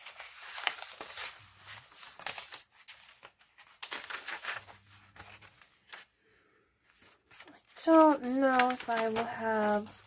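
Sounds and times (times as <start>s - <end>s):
paper pages turning: 0.0s - 6.2s, 6.9s - 10.0s.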